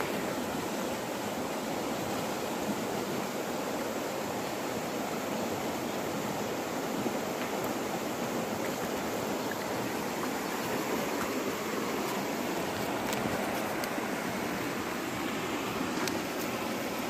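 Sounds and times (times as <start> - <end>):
stream flowing: 0.0 - 17.0.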